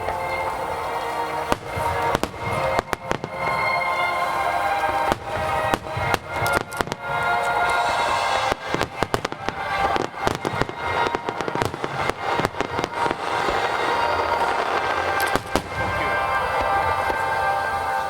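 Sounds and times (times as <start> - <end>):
fireworks crackling and popping: 0.0 - 18.0
music with long held tones: 0.0 - 18.0.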